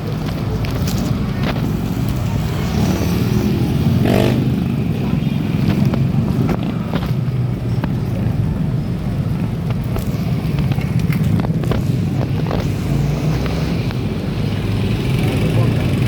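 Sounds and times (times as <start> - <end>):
vehicle passing: 0.0 - 16.0
wind and road noise: 0.0 - 16.0.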